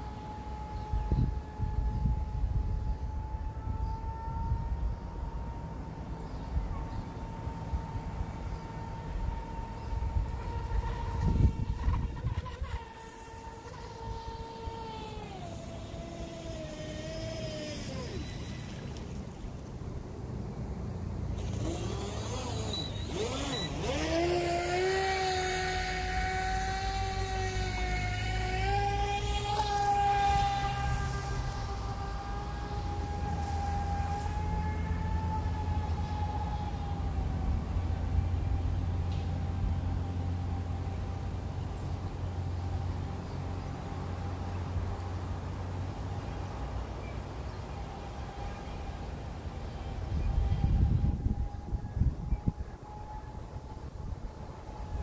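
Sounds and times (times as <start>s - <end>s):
toy boat motor whining: 0.0s - 55.0s.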